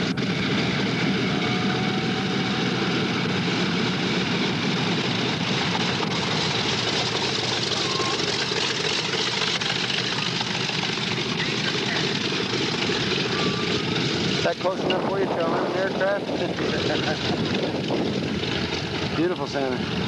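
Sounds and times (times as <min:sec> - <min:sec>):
propeller aircraft engine: 0:00.0 - 0:20.0.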